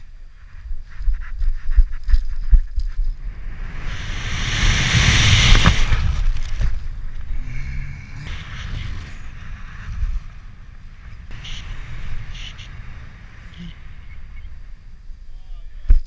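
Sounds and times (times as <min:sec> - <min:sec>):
wind rushing over camera: 0:00.0 - 0:16.0
parachute fluttering: 0:01.0 - 0:15.3.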